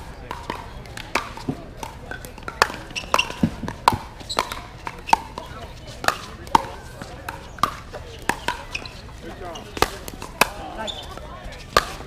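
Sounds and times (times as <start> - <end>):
paddles striking plastic ball: 0.2 - 9.0, 9.7 - 12.0.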